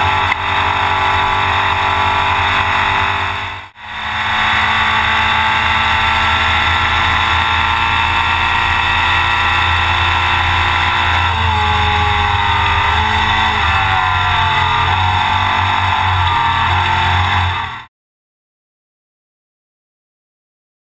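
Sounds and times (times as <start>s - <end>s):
road noise: 0.0s - 17.9s
truck engine running hard: 0.0s - 17.9s.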